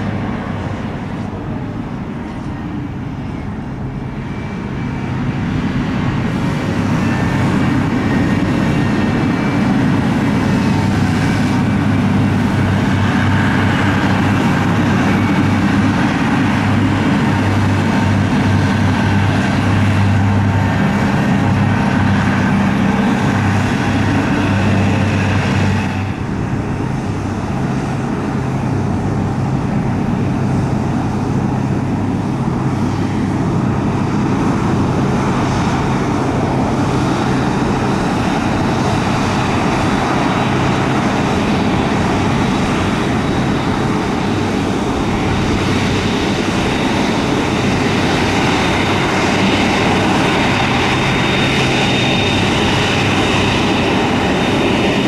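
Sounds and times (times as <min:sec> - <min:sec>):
high fan whine: 0:00.0 - 0:55.0
jet engines rumbling: 0:00.0 - 0:55.0.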